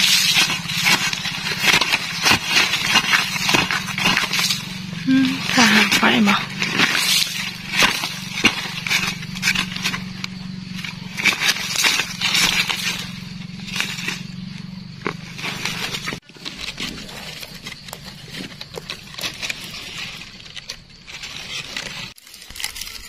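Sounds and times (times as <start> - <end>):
digging in soil: 0.0 - 23.0.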